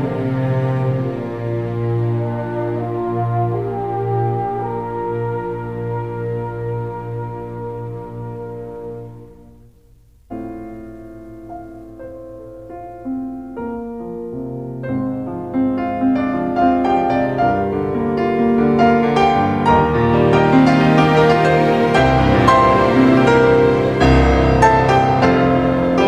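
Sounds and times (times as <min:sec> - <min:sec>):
solo piano piece: 0:00.0 - 0:26.0.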